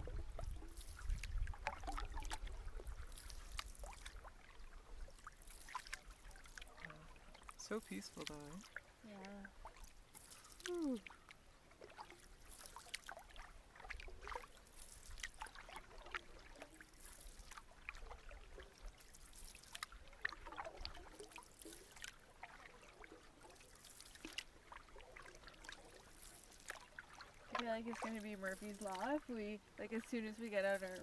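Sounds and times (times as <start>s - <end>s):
paddle splashes: 0.0s - 31.0s
water dripping off paddle: 0.3s - 31.0s.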